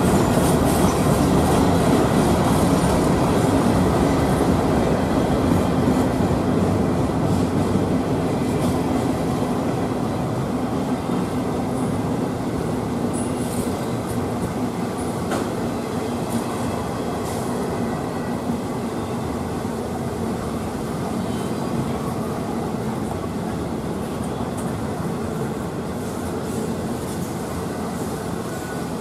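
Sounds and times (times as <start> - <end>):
steel wheels rumbling on rails: 0.0 - 29.0.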